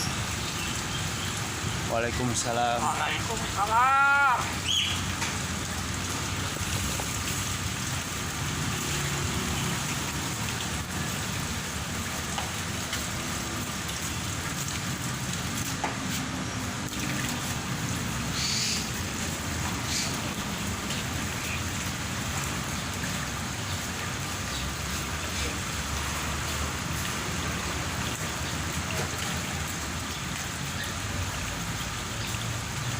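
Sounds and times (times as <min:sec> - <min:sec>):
water spraying hiss: 0:00.0 - 0:32.9.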